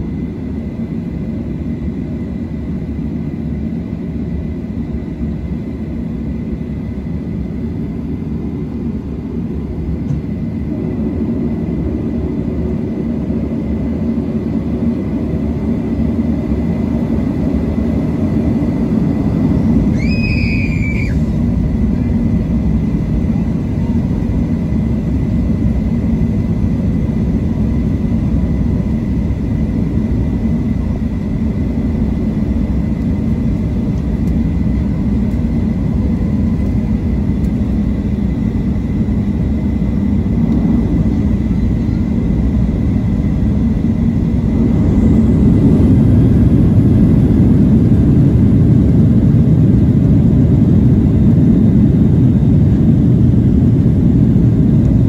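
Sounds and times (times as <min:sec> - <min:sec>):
faint engine whine: 0:00.0 - 0:55.0
jet engines rumbling in cabin: 0:00.0 - 0:55.0.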